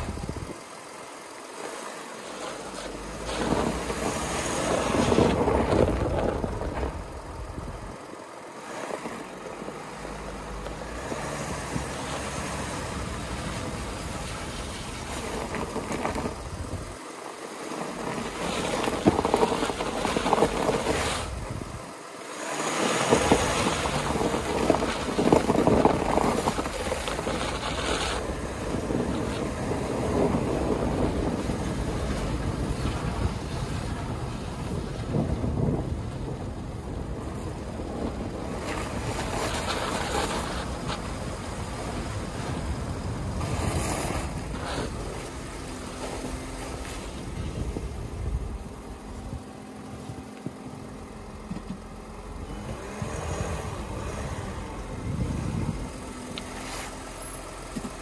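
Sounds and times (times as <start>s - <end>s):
tyres rolling over snow and slush: 0.0s - 58.0s.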